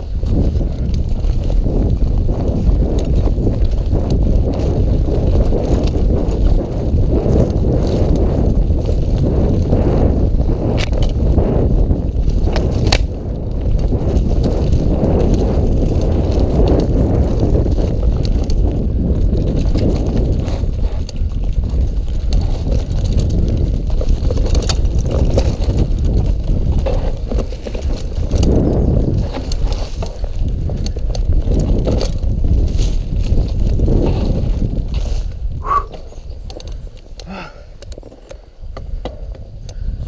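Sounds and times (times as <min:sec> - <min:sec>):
bike rattling over bumps: 0:00.0 - 0:40.0
wind and tyre rumble: 0:00.0 - 0:40.0.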